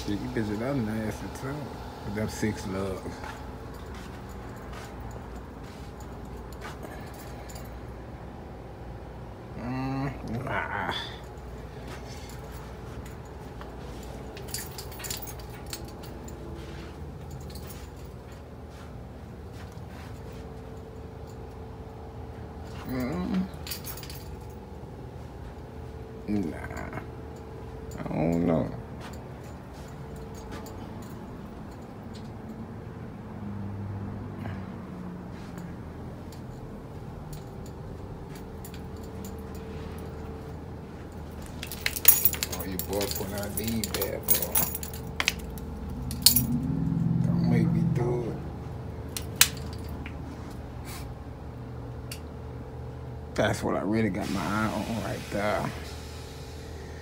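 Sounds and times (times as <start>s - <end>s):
light metallic clicks and jingles: 0.0s - 53.8s
indoor background hum: 0.0s - 57.0s.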